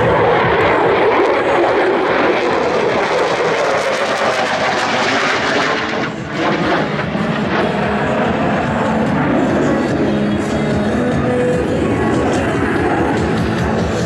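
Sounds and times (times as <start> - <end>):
aircraft engine in flight: 0.0 - 14.0.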